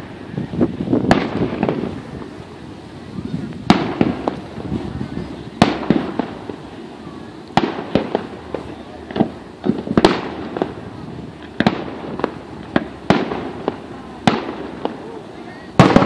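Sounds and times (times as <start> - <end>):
fireworks bursting with echo: 0.0 - 16.0.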